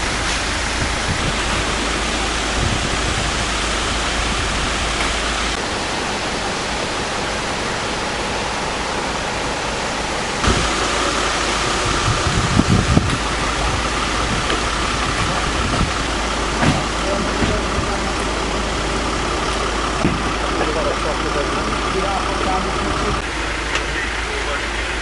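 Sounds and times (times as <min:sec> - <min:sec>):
outdoor noise hiss: 0:00.0 - 0:25.0.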